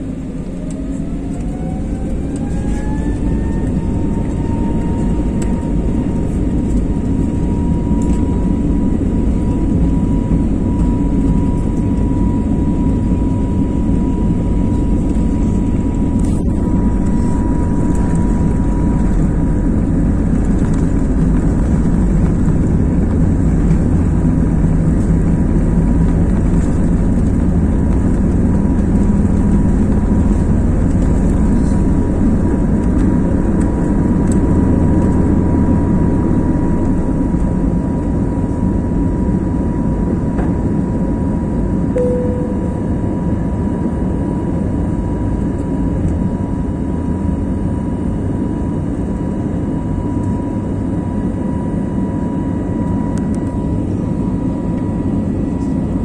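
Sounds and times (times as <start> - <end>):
jet engine whine: 0.0 - 56.0
low engine rumble: 0.0 - 56.0.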